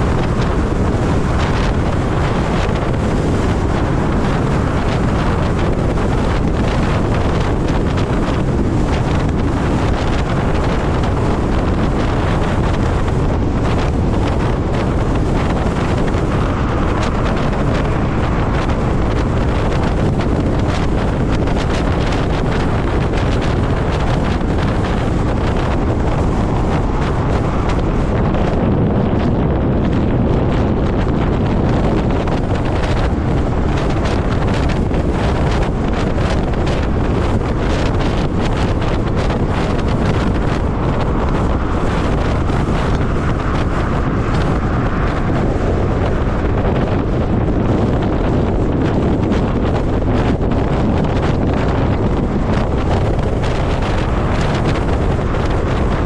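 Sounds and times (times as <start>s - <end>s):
road noise rumble: 0.0s - 56.0s
wind buffeting microphone: 0.0s - 56.0s.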